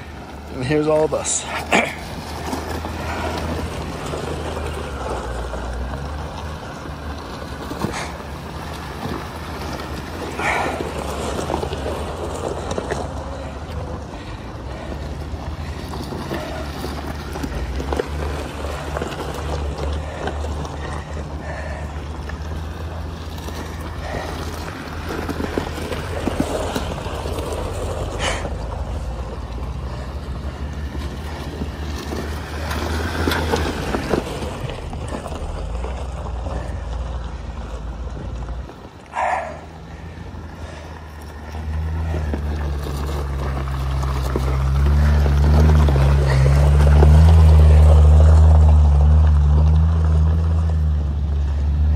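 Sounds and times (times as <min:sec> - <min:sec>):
engine running under load: 0:00.0 - 0:51.9.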